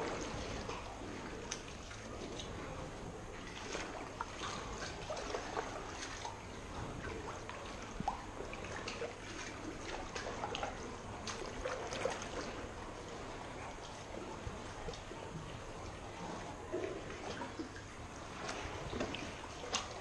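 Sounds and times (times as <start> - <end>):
paddle dipping into water: 0.0 - 20.0
water trickling and dripping: 0.0 - 20.0.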